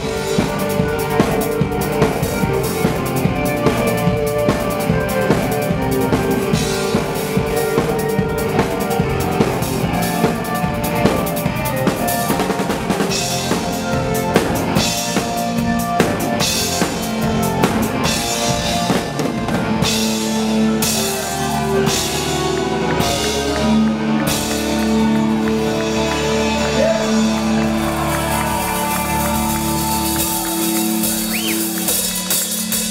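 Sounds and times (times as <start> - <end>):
live rock band playing: 0.0 - 32.9
loud busy drum kit: 0.0 - 32.9.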